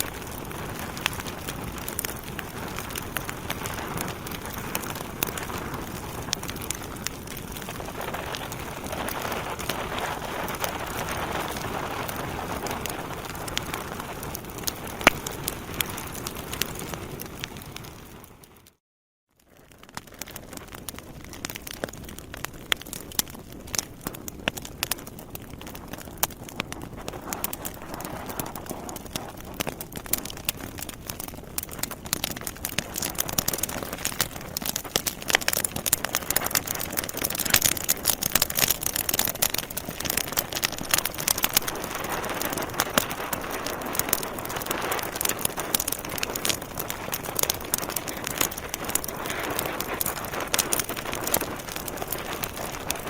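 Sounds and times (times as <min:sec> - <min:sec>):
rush of flame: 0:00.0 - 0:18.4, 0:21.4 - 0:53.0
logs crackling and popping: 0:00.0 - 0:18.8, 0:19.4 - 0:53.0.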